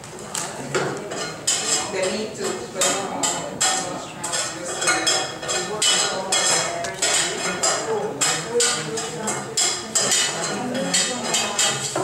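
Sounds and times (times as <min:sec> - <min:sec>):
metal utensils clinking on cookware: 0:00.7 - 0:12.0.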